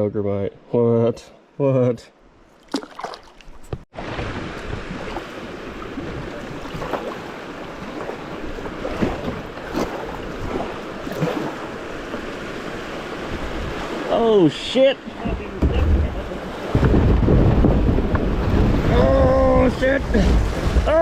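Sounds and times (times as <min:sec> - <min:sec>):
water splashes: 0:02.5 - 0:21.0
creek water rushing: 0:02.6 - 0:21.0.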